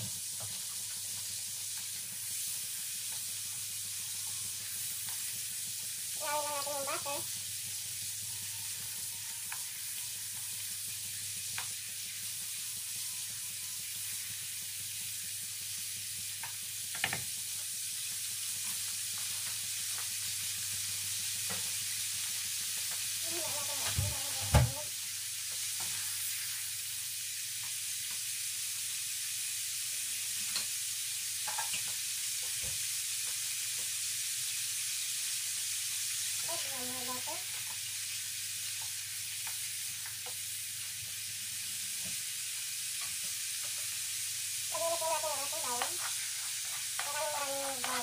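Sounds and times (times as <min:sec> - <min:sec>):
sauce sizzling in a wok: 0:00.0 - 0:48.0.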